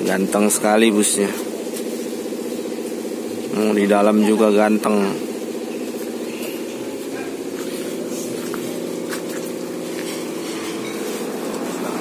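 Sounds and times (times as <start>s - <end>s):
diesel bus engine idling: 0.0s - 12.0s.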